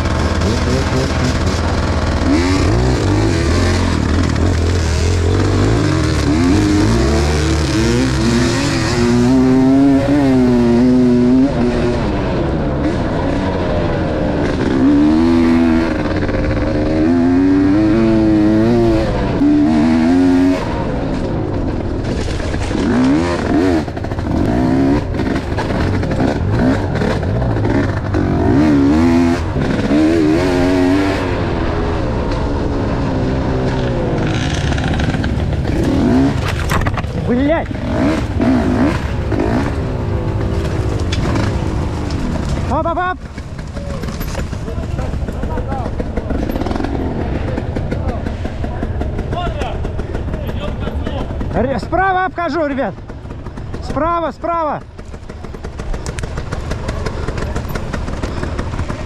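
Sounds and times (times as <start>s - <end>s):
motorcycle engine revving: 0.0s - 59.0s
other motorcycle engines: 0.0s - 59.0s.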